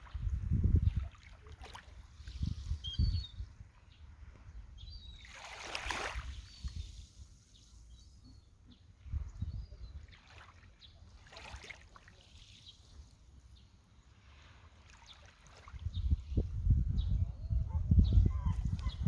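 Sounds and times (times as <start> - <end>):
small waves lapping at shore: 0.0 - 2.8, 3.5 - 16.6.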